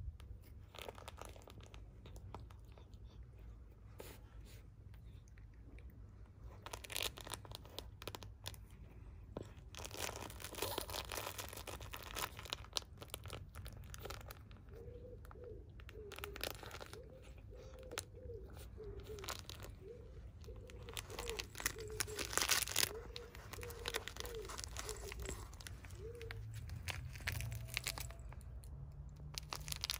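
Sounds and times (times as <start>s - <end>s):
fabric toy crinkling: 0.0s - 4.6s, 6.3s - 29.9s.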